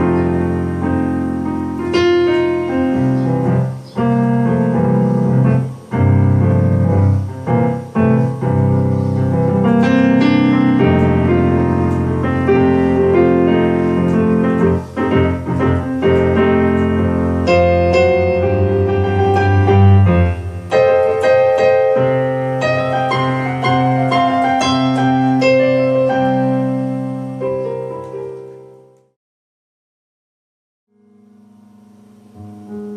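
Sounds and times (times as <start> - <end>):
electronic keyboard piano sound: 0.0 - 29.2, 30.9 - 32.9.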